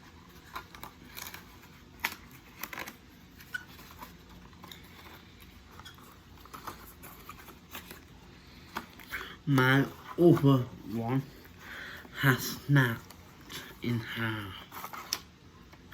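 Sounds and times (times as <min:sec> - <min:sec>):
packaging rustling: 0:00.0 - 0:15.9.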